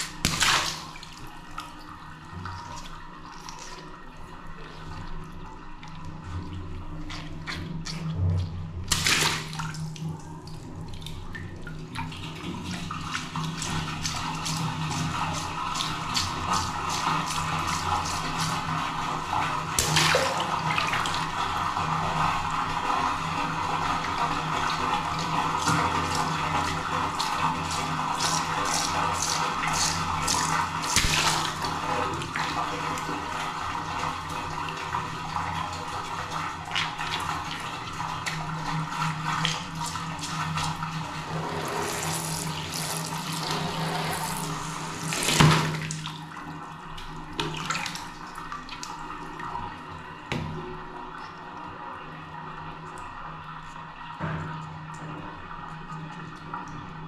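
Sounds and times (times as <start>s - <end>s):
water splashing and trickling: 0.0s - 51.6s.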